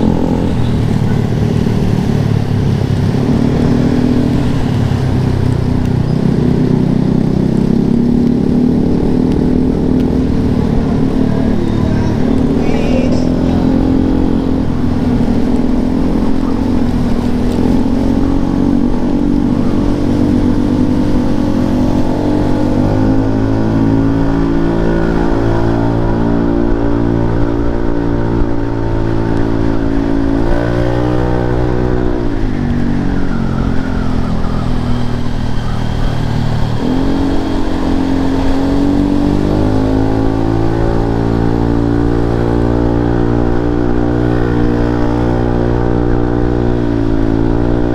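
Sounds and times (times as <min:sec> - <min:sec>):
scooter engine revving: 0:00.0 - 0:47.9.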